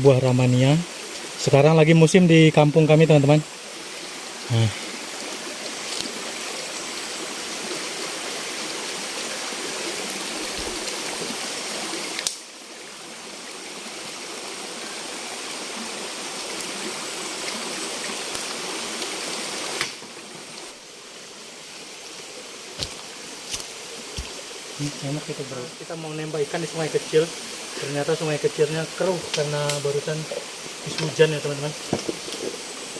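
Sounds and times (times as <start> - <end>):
river rushing: 2.3 - 32.9.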